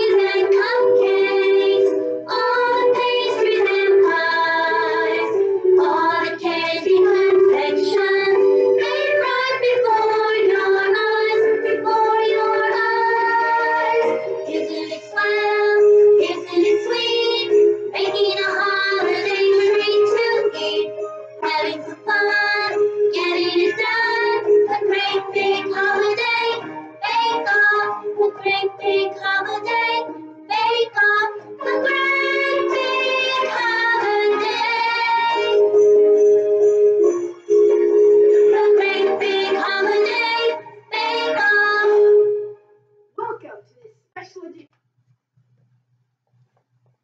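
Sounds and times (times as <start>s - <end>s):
woman singing a children's song: 0.0s - 35.6s, 38.5s - 42.1s
musical backing track: 0.0s - 43.4s.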